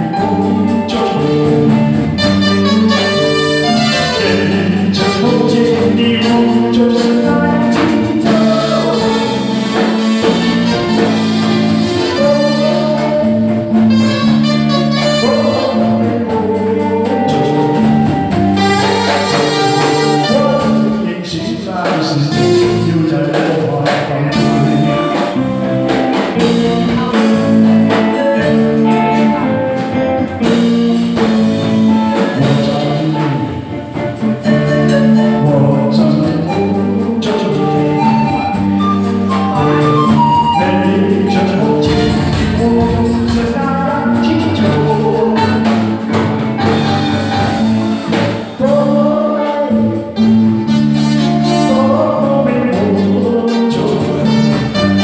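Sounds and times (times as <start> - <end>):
live band with drums: 0.0 - 55.0
man singing into microphone: 0.0 - 55.0.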